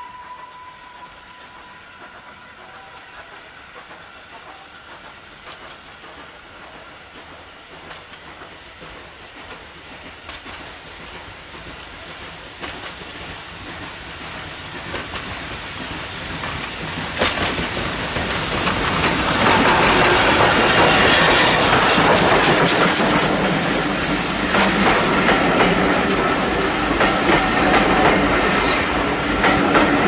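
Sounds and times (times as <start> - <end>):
rail noise: 0.0 - 30.0
rush of steam: 0.0 - 30.0
steam locomotive exhaust beats: 0.0 - 30.0
wheels clicking over rail joints: 2.7 - 28.5.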